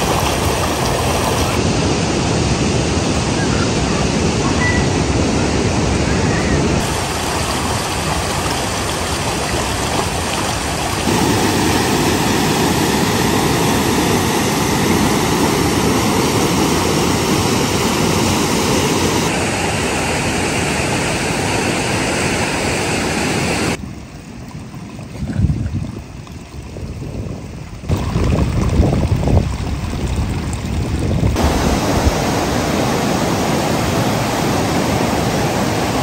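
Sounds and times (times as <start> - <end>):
fast water roaring: 0.0 - 36.0.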